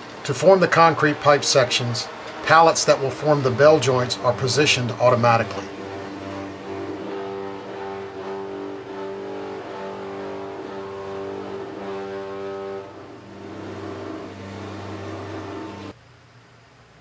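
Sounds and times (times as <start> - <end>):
pitched mechanical drone: 0.0 - 16.0
low machine hum: 0.0 - 17.0.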